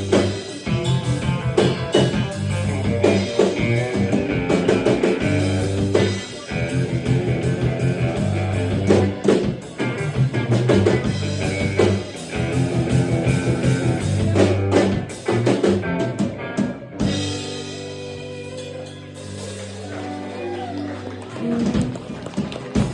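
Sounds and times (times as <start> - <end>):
live country band playing: 0.0 - 22.9.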